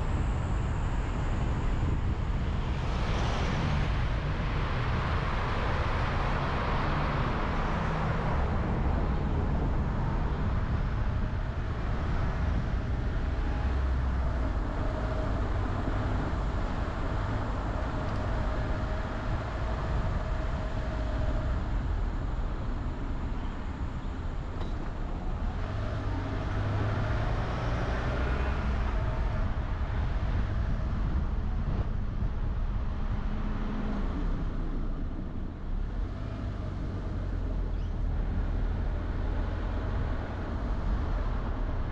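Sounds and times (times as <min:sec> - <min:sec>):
car engine and tyre rumble: 0:00.0 - 0:41.9.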